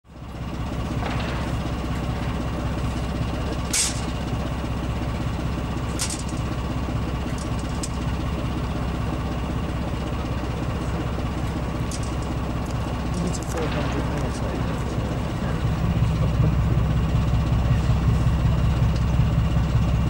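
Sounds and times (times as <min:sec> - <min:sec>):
locomotive engines idling: 0:00.1 - 0:20.0.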